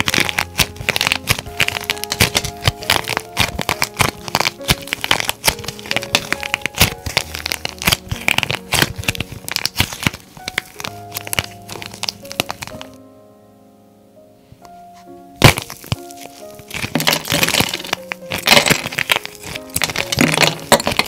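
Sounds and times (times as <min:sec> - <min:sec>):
dried clay cracking by hand: 0:00.0 - 0:13.0, 0:15.4 - 0:21.0
soft piano music: 0:00.0 - 0:21.0.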